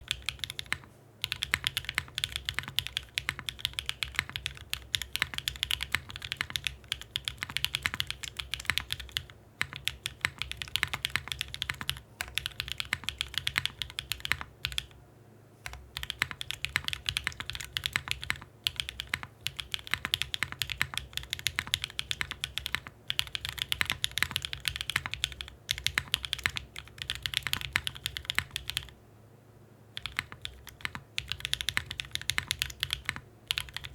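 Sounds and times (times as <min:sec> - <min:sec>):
mechanical keyboard typing: 0:00.0 - 0:14.9, 0:15.6 - 0:28.9, 0:30.0 - 0:33.9.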